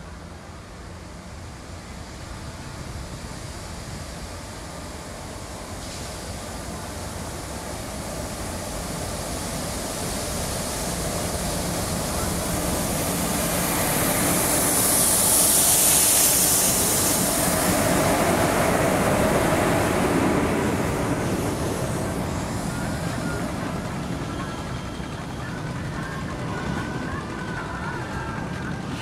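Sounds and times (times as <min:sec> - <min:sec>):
electric locomotives passing: 0:00.0 - 0:29.0.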